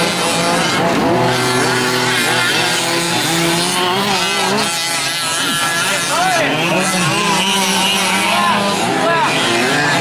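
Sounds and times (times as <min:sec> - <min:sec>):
rc truck engines revving: 0:00.0 - 0:10.0.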